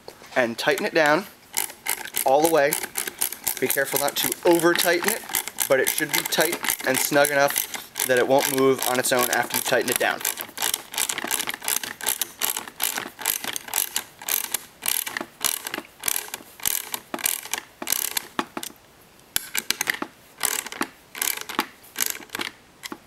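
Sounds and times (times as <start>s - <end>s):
wrench clicking on nut: 0.6s - 18.8s, 19.4s - 23.0s.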